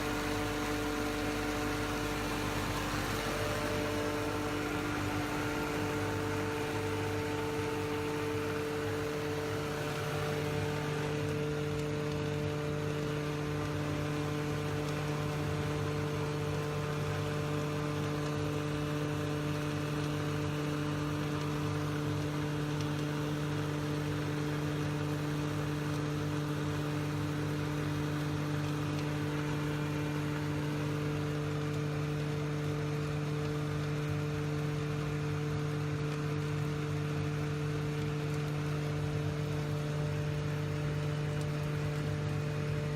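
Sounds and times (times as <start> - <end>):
mill motor hum: 0.0 - 42.9.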